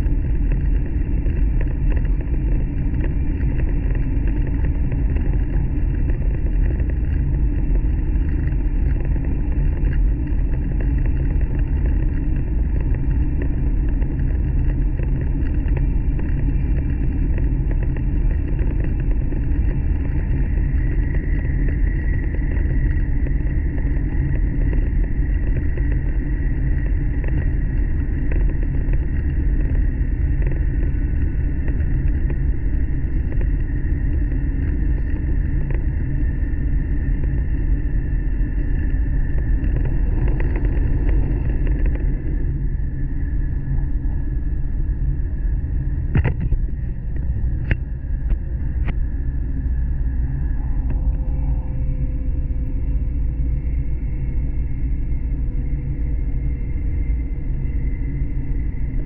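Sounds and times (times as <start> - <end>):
faint high whine: 0.0 - 59.0.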